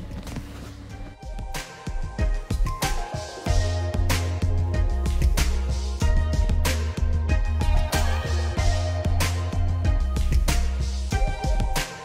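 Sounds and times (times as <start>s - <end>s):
background music with drums and bass: 0.0s - 12.0s.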